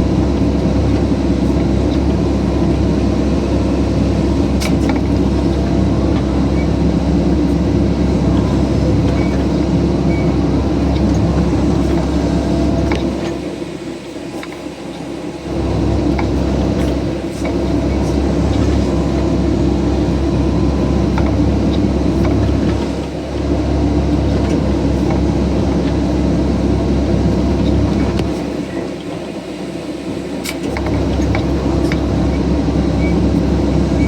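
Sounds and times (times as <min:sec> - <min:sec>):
excavator engine and hydraulics: 0:00.0 - 0:34.0.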